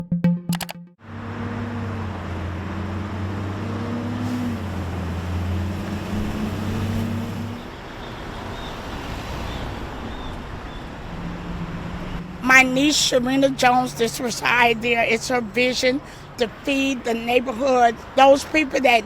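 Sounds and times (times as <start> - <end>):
street traffic noise: 1.1 - 19.0.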